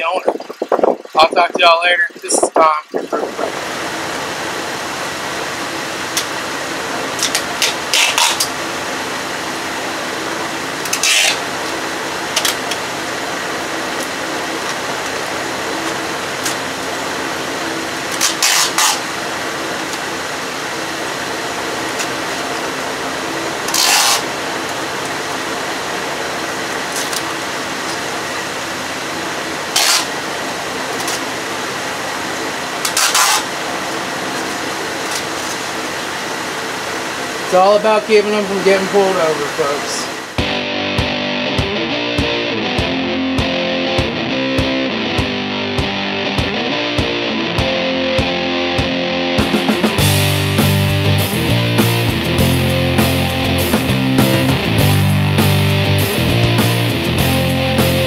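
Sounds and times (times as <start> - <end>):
radiator cooling fans whirring: 0.0 - 58.0.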